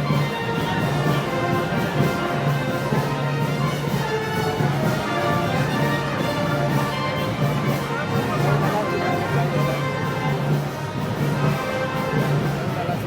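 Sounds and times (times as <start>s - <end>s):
brass band music: 0.0s - 13.0s.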